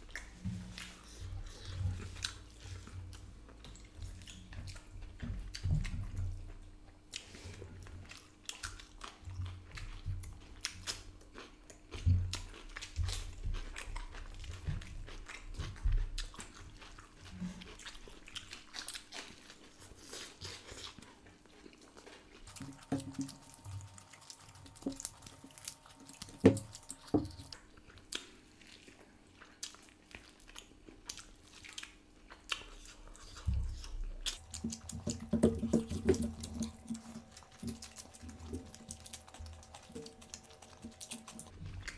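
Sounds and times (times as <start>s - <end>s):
chewing and lip-smacking: 0.0s - 41.9s.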